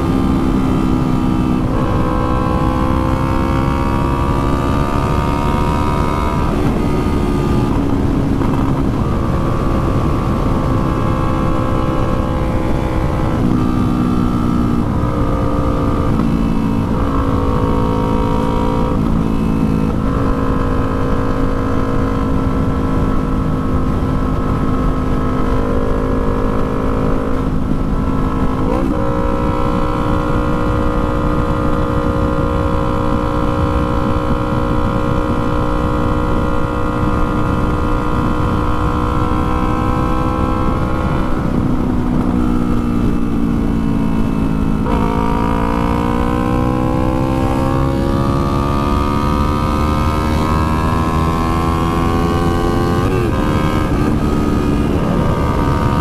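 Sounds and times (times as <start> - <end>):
motorcycle engine accelerating: 0.0 - 56.0
wind rush: 0.0 - 56.0.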